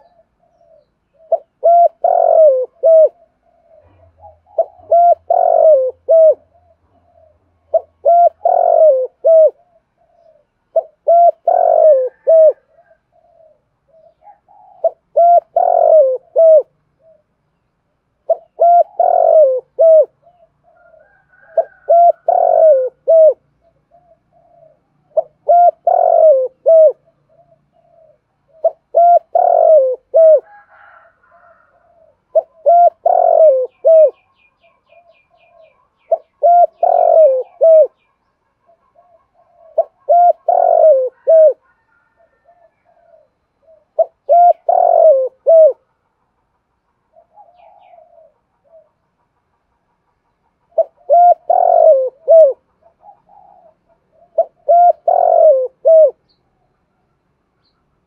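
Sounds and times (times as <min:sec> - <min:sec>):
dove cooing: 0:00.0 - 0:17.4, 0:18.2 - 0:46.0, 0:47.1 - 0:49.3, 0:50.4 - 0:56.4.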